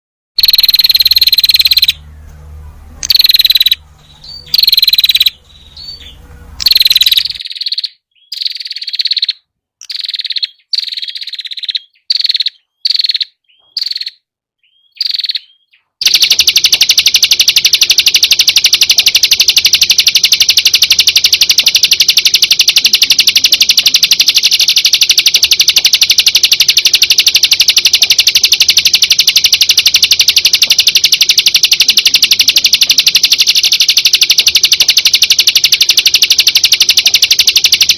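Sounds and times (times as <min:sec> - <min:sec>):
bird rapid high trill: 0:00.4 - 0:02.1, 0:03.0 - 0:37.9
bird chirping: 0:03.0 - 0:37.9.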